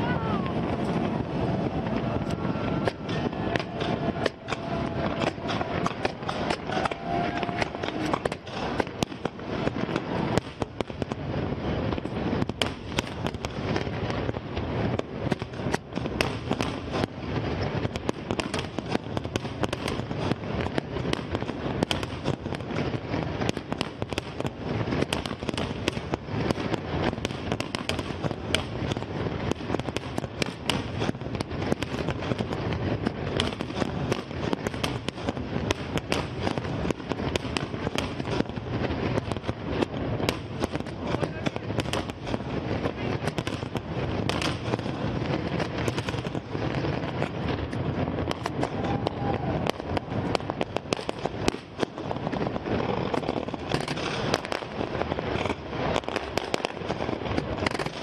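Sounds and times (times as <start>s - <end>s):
fireworks cracking and popping: 0.0s - 58.0s.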